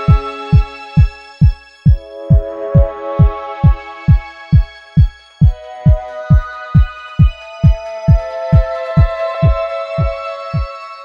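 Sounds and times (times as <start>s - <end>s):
held chords: 0.0s - 11.0s
deep kick drum: 0.1s - 10.7s.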